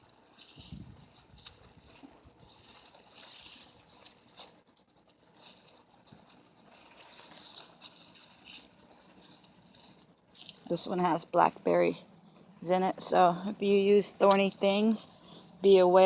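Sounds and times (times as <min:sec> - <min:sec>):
grass stems rustling in hands: 0:00.0 - 0:16.0.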